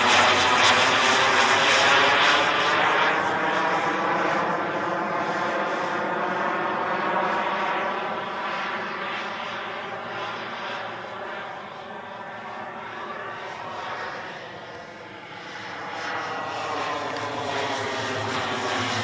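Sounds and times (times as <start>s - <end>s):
model jet turbine whine: 0.0s - 19.0s.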